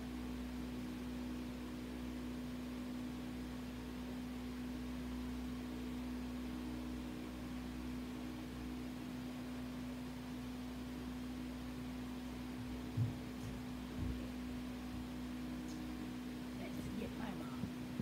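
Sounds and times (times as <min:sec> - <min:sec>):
steady tonal hum: 0:00.0 - 0:18.0.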